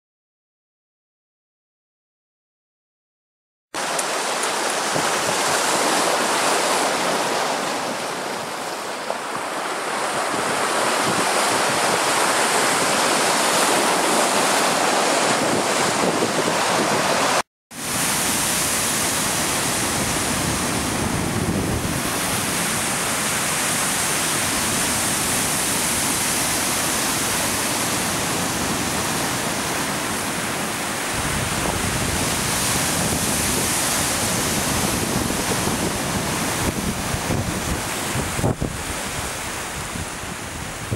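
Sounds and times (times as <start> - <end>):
waves washing through ice: 3.8 - 40.9
wind on microphone: 4.5 - 40.9.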